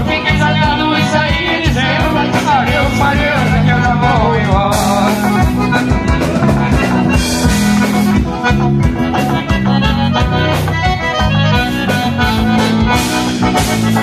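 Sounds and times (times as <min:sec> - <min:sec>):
live band with accordion: 0:00.0 - 0:14.0.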